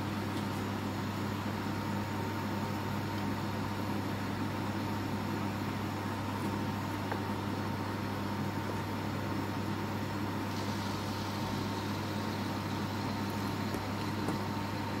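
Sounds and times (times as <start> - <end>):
appliance fan hum with whine: 0.0 - 15.0.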